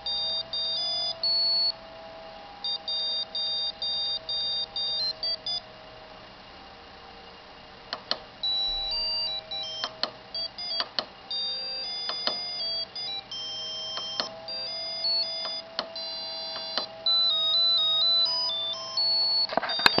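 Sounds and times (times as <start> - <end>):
high-pitched beeping ringtone melody: 0.0 - 1.8, 2.6 - 5.6, 8.4 - 20.0.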